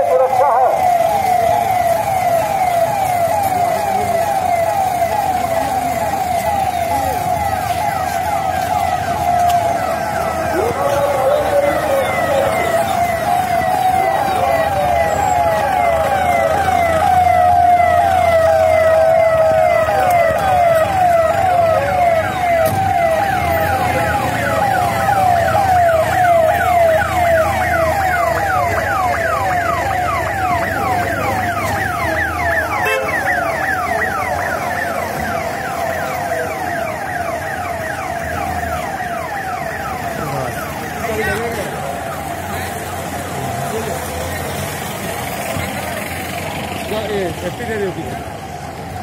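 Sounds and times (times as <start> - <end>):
emergency vehicle siren: 0.0 - 49.0.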